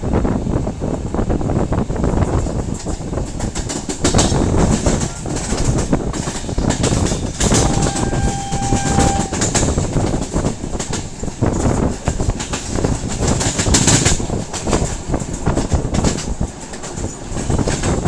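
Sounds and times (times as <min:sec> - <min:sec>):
train rumbling on rails: 0:00.0 - 0:18.0
wheels clattering over rail joints: 0:00.6 - 0:18.0.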